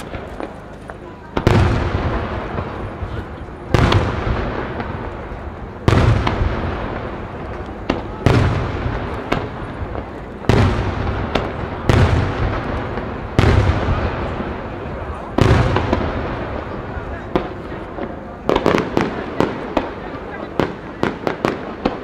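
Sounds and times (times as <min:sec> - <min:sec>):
faint firework cracks and pops: 0:00.0 - 0:22.0.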